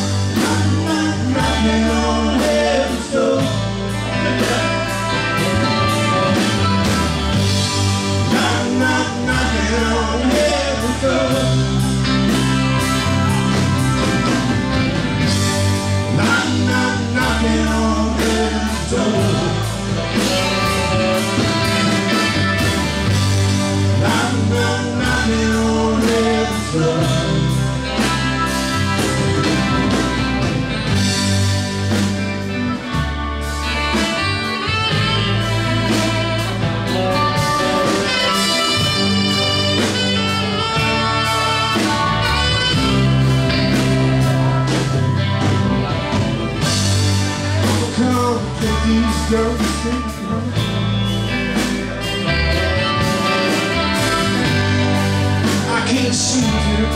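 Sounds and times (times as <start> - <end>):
live band playing: 0.0 - 56.9
person singing: 0.3 - 6.7, 8.2 - 14.4, 16.0 - 23.2, 23.9 - 30.0, 34.2 - 50.7, 52.4 - 56.9.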